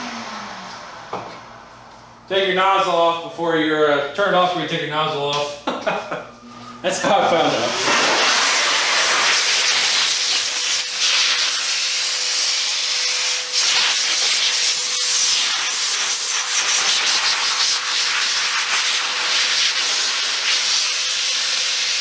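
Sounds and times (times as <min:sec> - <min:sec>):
car dryer blowing air: 0:00.0 - 0:03.4, 0:06.4 - 0:22.0.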